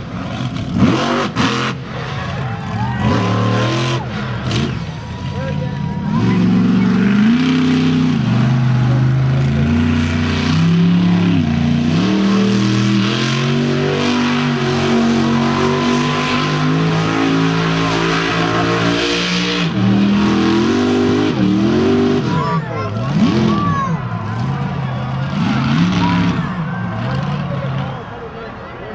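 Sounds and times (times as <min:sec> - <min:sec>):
monster truck engine revving: 0:00.0 - 0:28.9.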